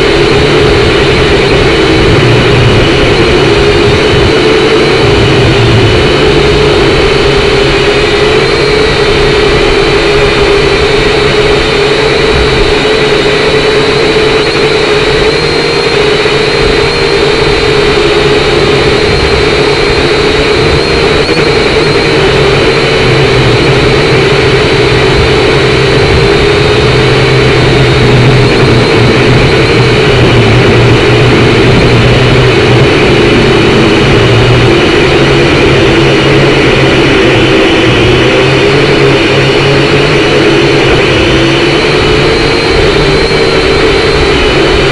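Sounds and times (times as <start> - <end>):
quadcopter propellers whining: 0.0 - 44.9
rushing noise: 0.0 - 44.9.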